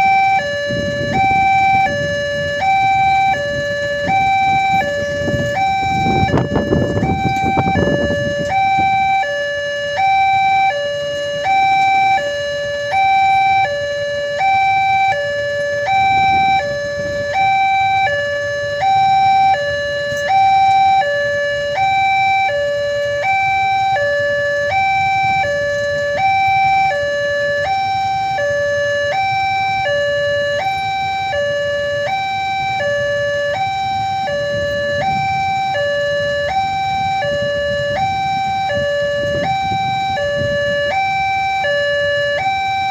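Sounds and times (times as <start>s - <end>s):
level crossing two-tone alarm: 0.0s - 42.9s.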